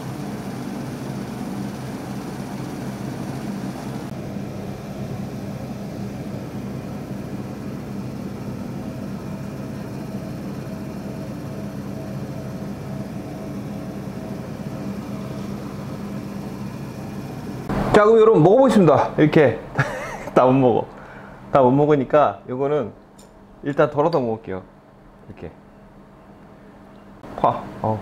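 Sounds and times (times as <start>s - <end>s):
ventilation fan humming: 0.0s - 28.0s.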